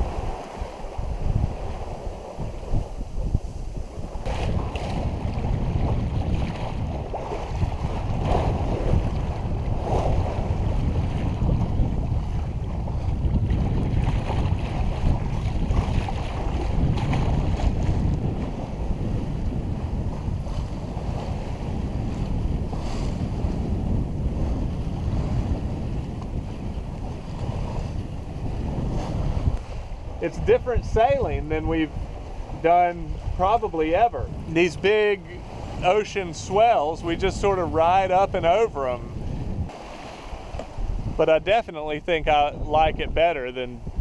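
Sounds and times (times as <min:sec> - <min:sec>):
water rushing along hull: 0:00.0 - 0:44.0
wind buffeting microphone: 0:00.0 - 0:44.0.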